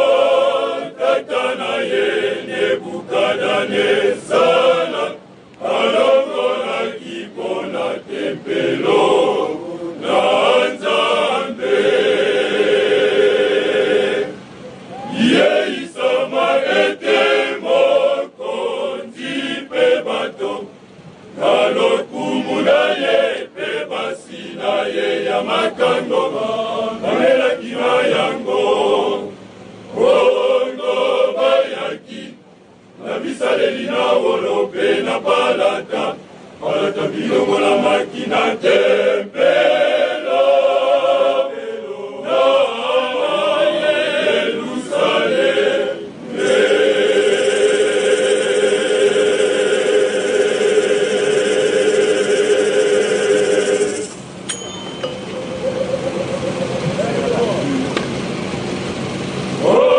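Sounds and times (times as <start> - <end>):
male choir singing: 0.0 - 20.7, 21.4 - 32.4, 33.0 - 54.2, 59.6 - 59.9.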